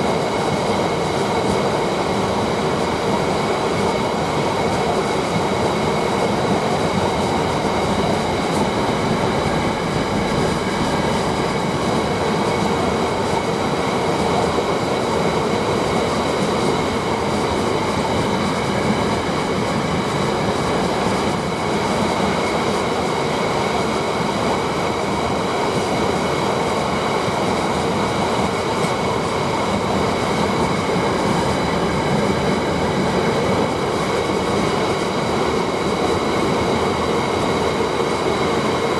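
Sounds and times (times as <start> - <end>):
train wheels clattering on track: 0.0 - 38.9.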